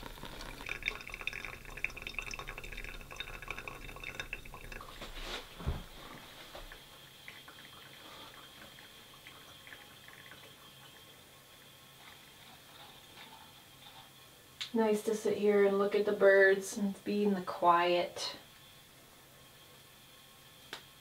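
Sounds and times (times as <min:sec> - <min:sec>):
water fizzing through coffee grounds: 0:00.0 - 0:18.0.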